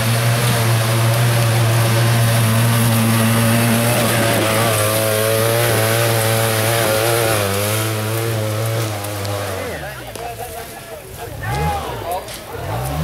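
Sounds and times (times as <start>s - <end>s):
utv engine revving hard: 0.0s - 10.0s, 11.4s - 12.0s, 12.6s - 13.0s.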